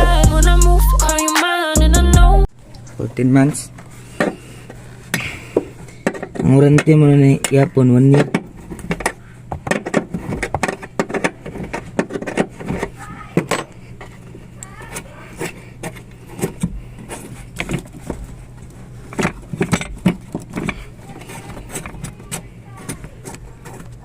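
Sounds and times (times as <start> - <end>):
low steady hum: 2.0 - 24.0.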